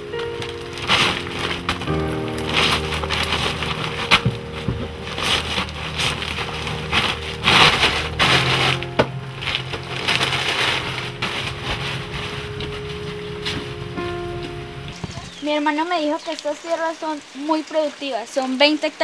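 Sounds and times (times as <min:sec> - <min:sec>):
plastic sack rustling and crinkling: 0:00.0 - 0:16.9.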